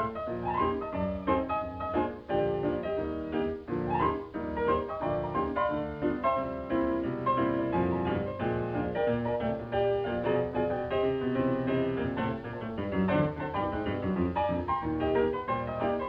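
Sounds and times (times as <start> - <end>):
brisk piano music: 0.0 - 16.0.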